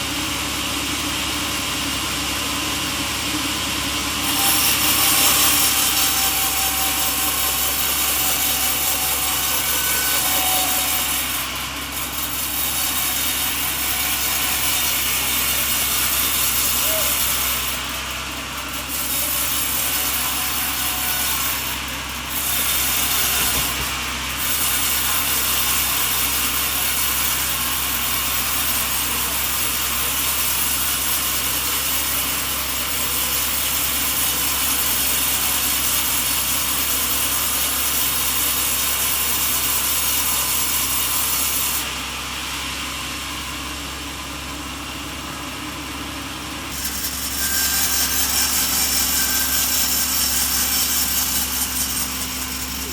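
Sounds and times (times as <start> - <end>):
saw cutting through log: 0.0 - 52.9.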